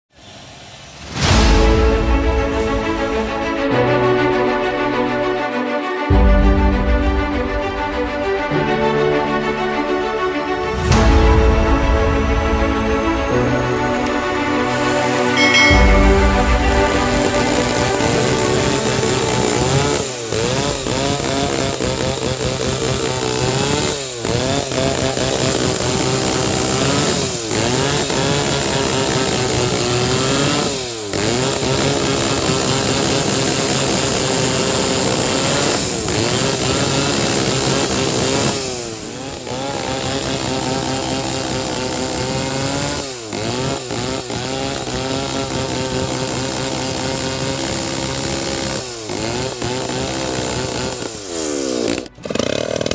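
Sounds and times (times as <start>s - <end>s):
chainsaw cutting timber: 10.4s - 52.9s.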